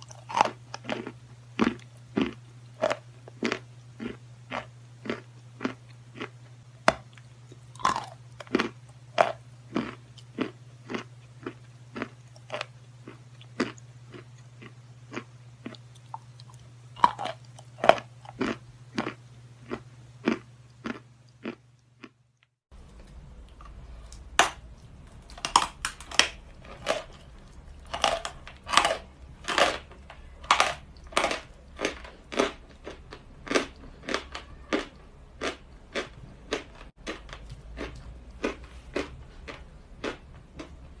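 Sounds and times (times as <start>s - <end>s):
chalk crunching being chewed: 0.0s - 22.5s, 30.5s - 40.8s
low hum: 0.0s - 41.0s.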